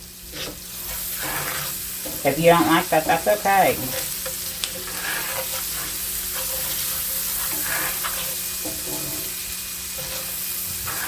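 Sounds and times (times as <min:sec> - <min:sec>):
vegetables sizzling in frying pan: 0:00.0 - 0:11.0.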